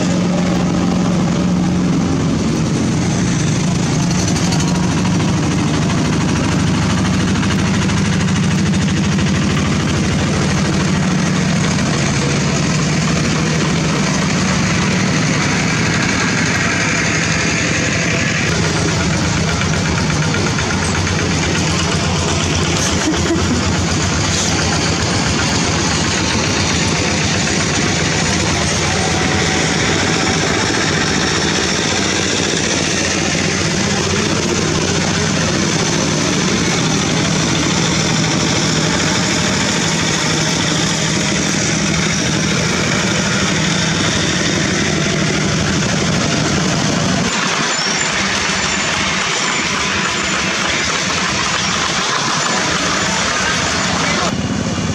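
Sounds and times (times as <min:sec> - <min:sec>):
diesel engines knocking: 0:00.0 - 0:54.9.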